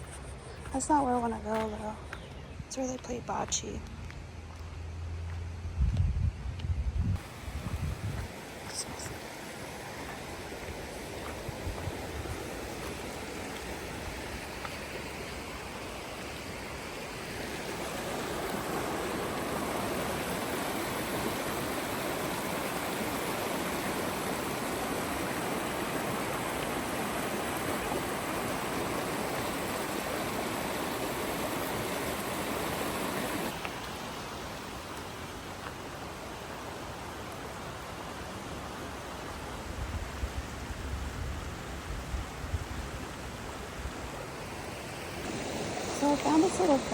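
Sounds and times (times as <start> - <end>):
running water rushing: 7.2 - 46.9.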